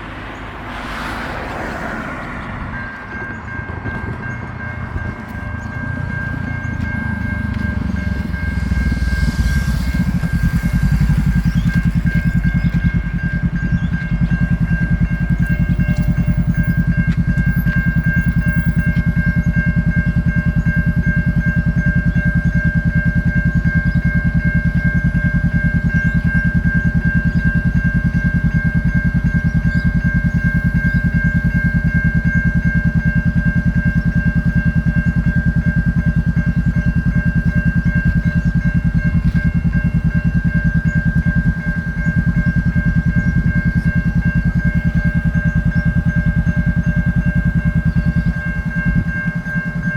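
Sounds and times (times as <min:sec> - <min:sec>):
level crossing warning bell: 0:00.0 - 0:49.9.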